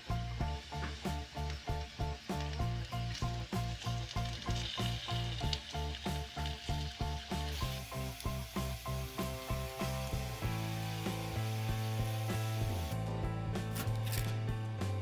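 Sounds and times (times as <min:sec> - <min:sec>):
food sizzling in a pan: 0:00.0 - 0:13.0
background music with steady beat: 0:00.0 - 0:15.0.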